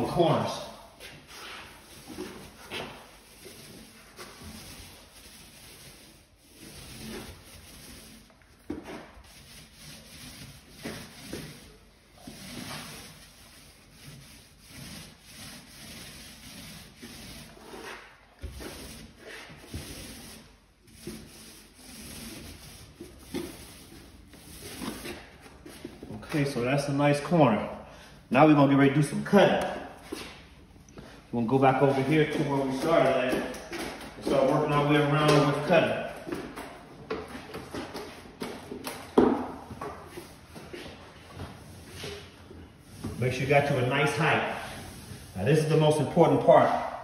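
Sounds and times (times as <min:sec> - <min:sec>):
paint roller swishing on wall: 0:00.0 - 0:47.0.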